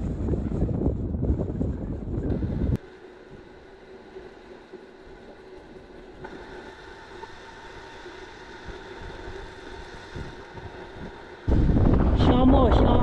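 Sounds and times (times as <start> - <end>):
road noise of riding: 0.0 - 13.0.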